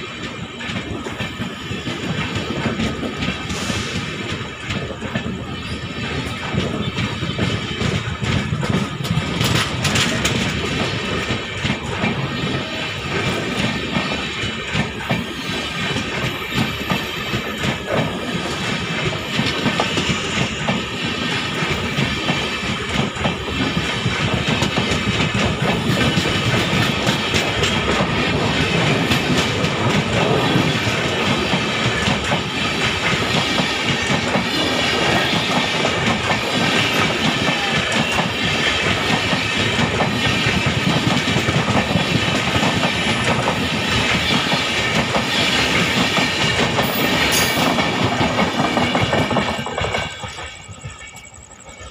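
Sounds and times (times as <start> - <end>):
clickety-clack over rail joints: 0.0 - 51.9
train wheels rumbling on rails: 0.0 - 51.9.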